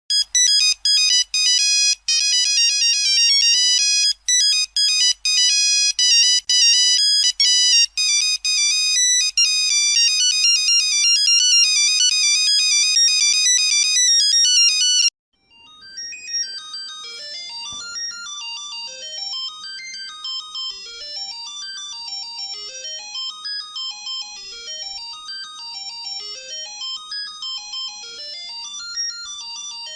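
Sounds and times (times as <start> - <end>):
bright phone ringtone melody: 0.1 - 29.9
quiet phone ringtone runs: 0.1 - 29.9.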